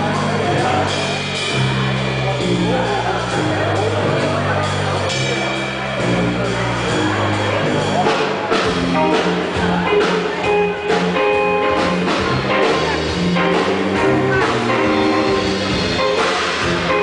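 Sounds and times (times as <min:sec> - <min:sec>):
electric guitar: 0:00.0 - 0:17.0
steady drum beat: 0:00.0 - 0:17.0
upright double bass low notes: 0:00.0 - 0:17.0.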